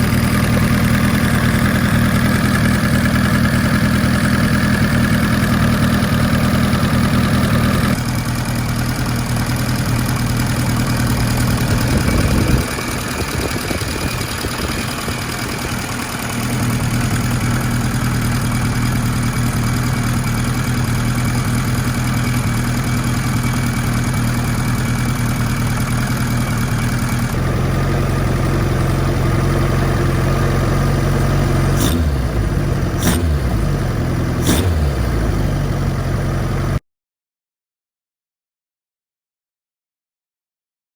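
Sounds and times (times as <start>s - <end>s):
motorcycle engine running: 0.0s - 36.8s.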